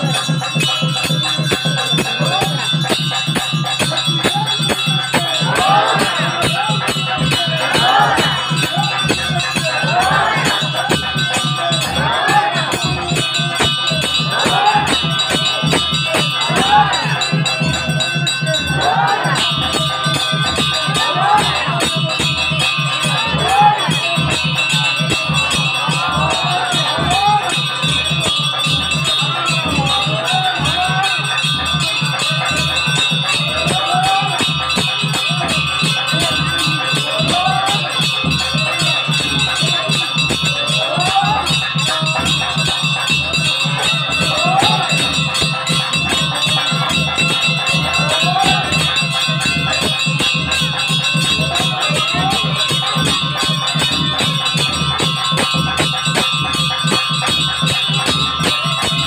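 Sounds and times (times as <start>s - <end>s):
fast even drumbeat: 0.0s - 59.0s
temple bells ringing: 0.0s - 59.0s.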